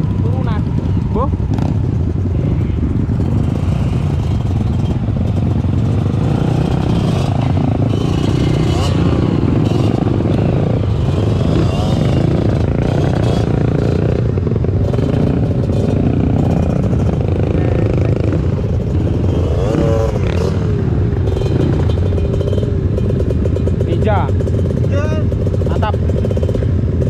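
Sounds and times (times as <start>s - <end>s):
dirt bike engines running: 0.0s - 27.0s.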